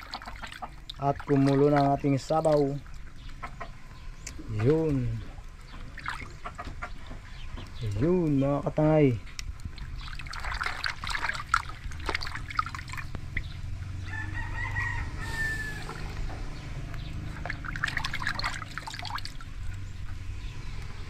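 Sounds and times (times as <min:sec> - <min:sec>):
water sloshing and splashing: 0:00.0 - 0:08.1, 0:09.4 - 0:14.1, 0:15.0 - 0:20.5.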